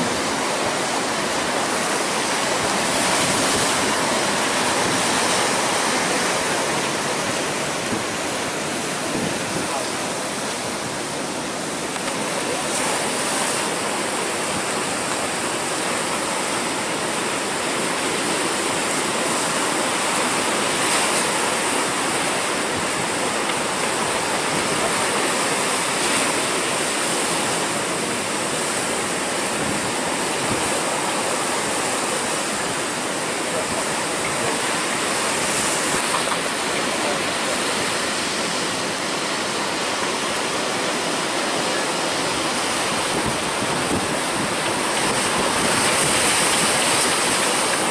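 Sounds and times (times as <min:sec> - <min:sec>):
heavy surf: 0:00.0 - 0:47.9
wind: 0:00.0 - 0:47.9.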